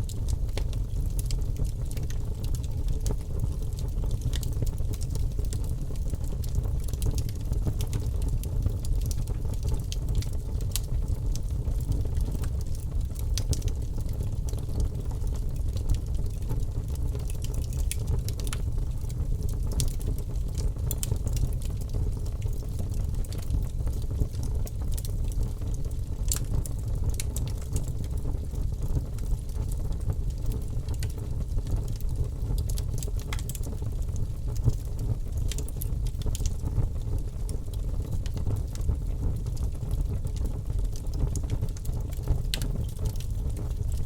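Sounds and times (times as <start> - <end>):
fire rumbling: 0.0 - 44.0
wood crackling and popping: 0.0 - 44.0.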